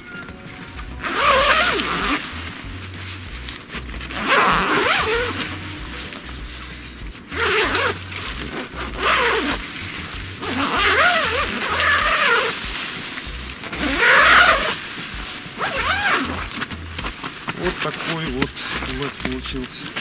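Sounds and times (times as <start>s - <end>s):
zipper rasping buzz: 0.5s - 19.0s.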